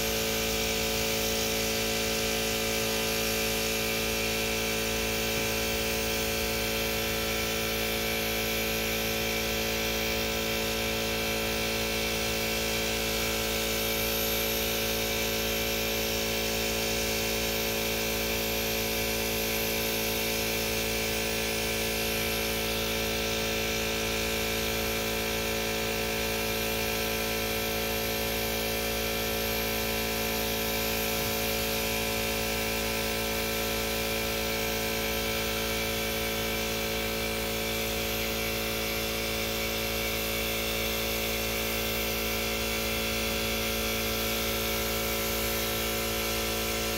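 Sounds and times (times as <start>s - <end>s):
air compressor humming: 0.0s - 46.9s.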